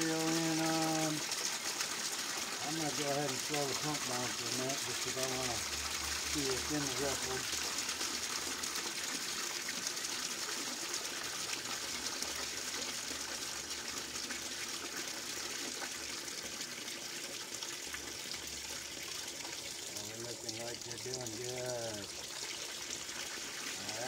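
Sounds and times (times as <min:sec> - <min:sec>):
water splashing into a tub: 0:00.0 - 0:24.0.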